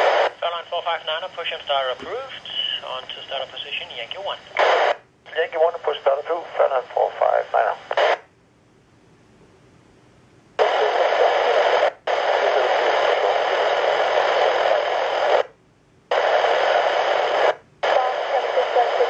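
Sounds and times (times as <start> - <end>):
radio static hiss: 0.0 - 8.3, 10.6 - 19.0.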